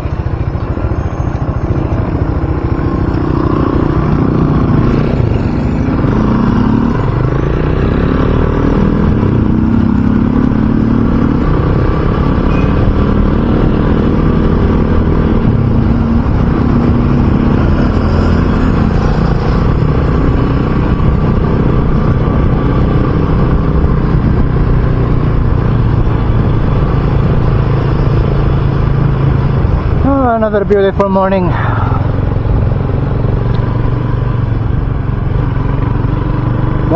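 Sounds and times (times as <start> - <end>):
motorcycle engine: 0.0 - 36.9.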